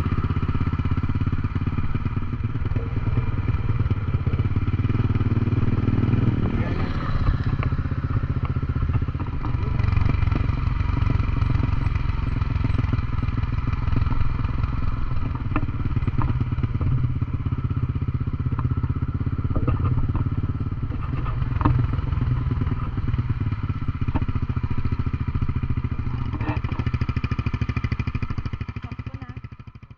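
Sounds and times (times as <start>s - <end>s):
motorcycle engine braking: 0.3s - 29.6s.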